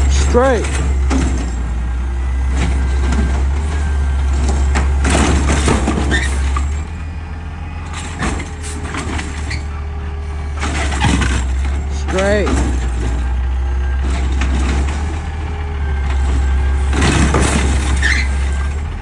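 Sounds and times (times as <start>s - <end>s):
knocks and clatters: 0.0s - 1.8s, 2.4s - 6.9s, 7.9s - 9.7s, 10.5s - 19.0s
diesel truck engine drone: 0.0s - 19.0s.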